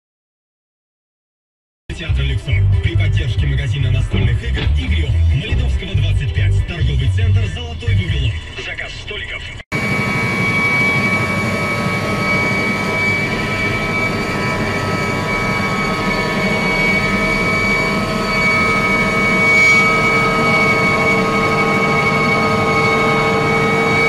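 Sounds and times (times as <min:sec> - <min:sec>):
moving vehicle running noise: 0:02.0 - 0:24.0
steady whining tones: 0:02.5 - 0:24.0.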